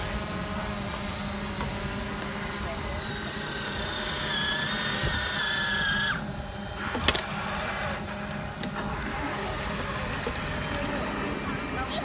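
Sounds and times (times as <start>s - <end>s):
electric winch motor whining: 0.0s - 12.0s.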